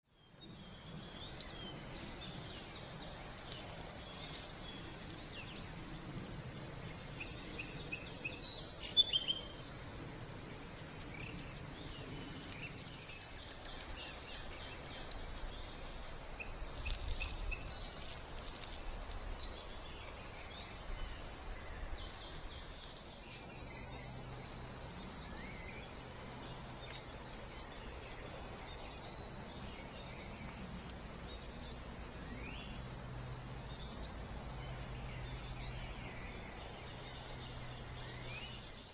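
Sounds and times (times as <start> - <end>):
songbirds singing: 0.0 - 38.9
steady background hiss: 0.2 - 38.9.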